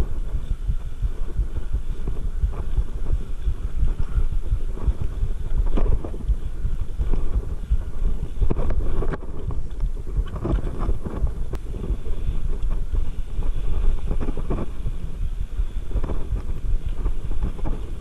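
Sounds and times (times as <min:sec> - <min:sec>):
bike knocking and rattling: 0:00.0 - 0:18.0
bike tyres rumbling on dirt: 0:00.0 - 0:18.0
wind buffeting microphone: 0:00.0 - 0:18.0.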